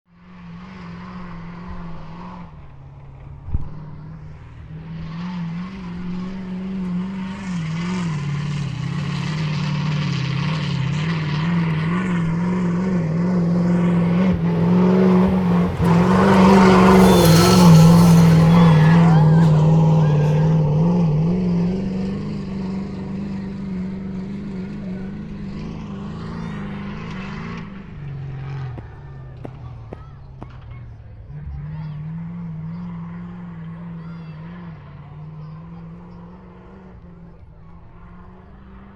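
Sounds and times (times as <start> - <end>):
truck engine running under load: 5.8 - 38.9.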